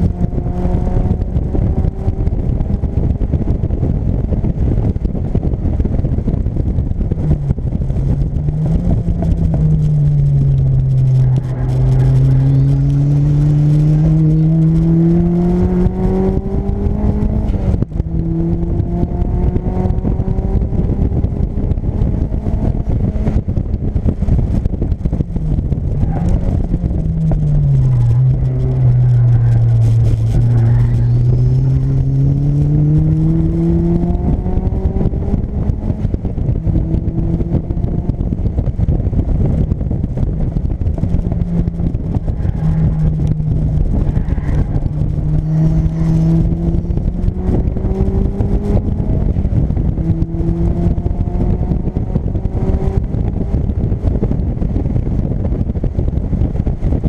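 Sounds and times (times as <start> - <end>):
car engine revving: 0.0 - 55.4.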